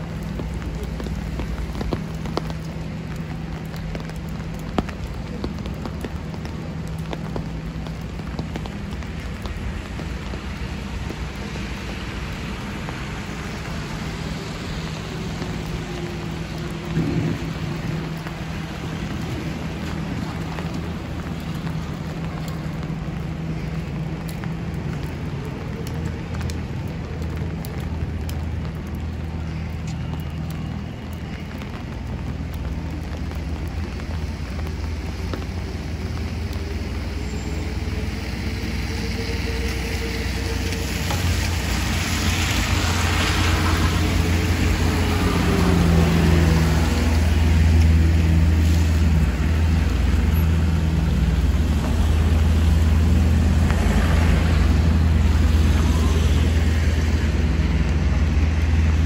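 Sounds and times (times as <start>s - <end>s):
city traffic rumble: 0.0s - 59.0s
rain hissing on wet pavement: 0.0s - 59.0s.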